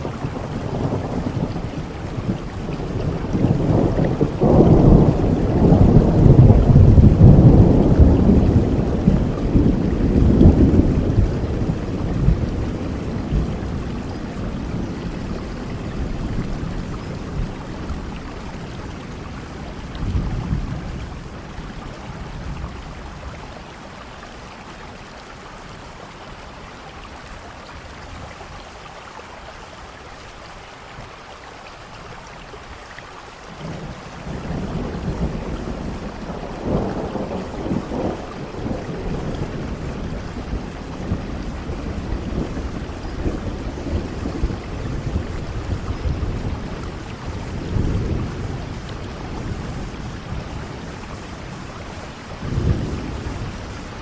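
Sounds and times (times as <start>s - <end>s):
rolling thunder: 0.0s - 23.8s, 33.5s - 54.0s
steady rain: 0.0s - 54.0s.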